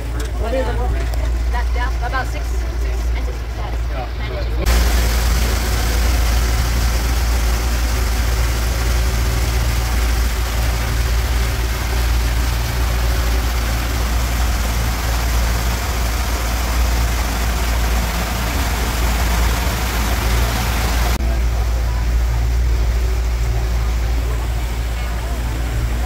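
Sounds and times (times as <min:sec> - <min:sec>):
boat engine droning: 0:00.0 - 0:26.0
steady rushing hiss: 0:04.6 - 0:26.0.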